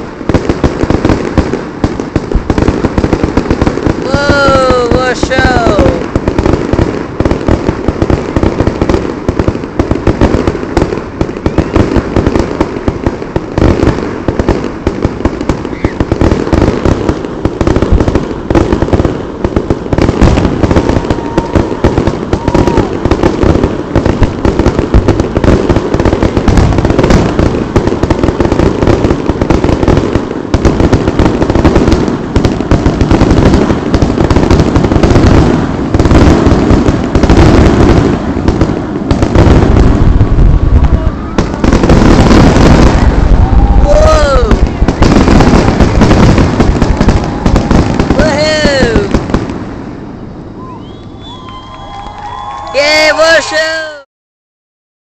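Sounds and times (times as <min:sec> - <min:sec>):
fireworks bursting: 0:00.0 - 0:54.1.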